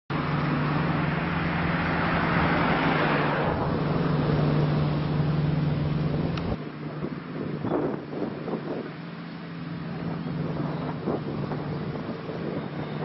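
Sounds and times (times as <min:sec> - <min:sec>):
low engine hum: 0:00.1 - 0:13.0
passing vehicle hiss: 0:00.2 - 0:13.0.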